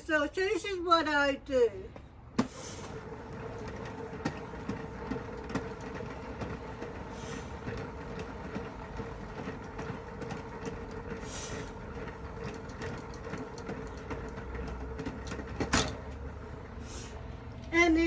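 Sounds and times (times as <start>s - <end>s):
hand-cranked washing machine whirring: 2.4s - 18.0s.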